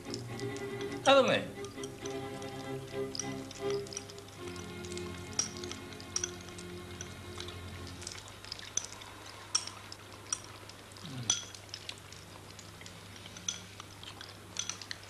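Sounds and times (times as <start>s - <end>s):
chopsticks clinking on bowls: 0.0s - 15.0s
low steady hum: 0.0s - 15.0s.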